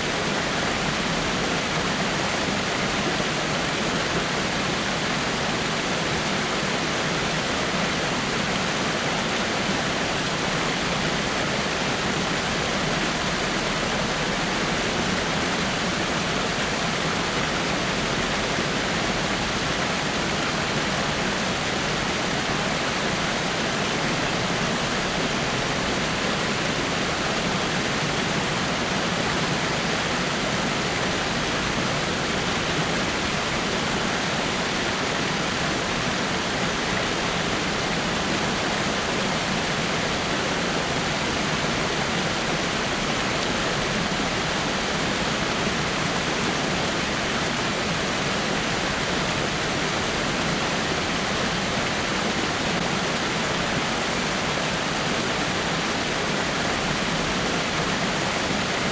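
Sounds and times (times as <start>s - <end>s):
waterfall rushing over rocks: 0.0s - 58.9s.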